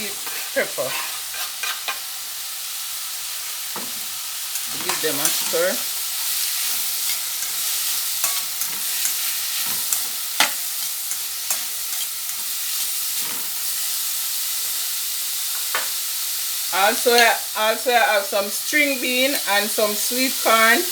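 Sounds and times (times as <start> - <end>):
vegetables sizzling in oil: 0.0 - 20.9.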